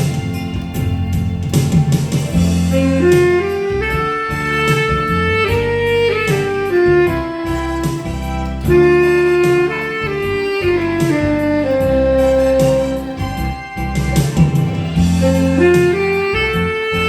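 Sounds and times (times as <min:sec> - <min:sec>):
bass line and steady beat: 0:00.0 - 0:17.0
saxophone melody: 0:00.0 - 0:17.0.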